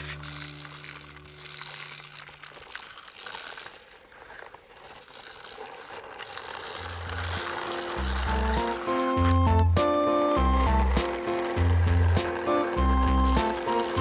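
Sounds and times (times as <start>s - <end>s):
toy truck wheels rolling on bricks: 0.0s - 14.0s.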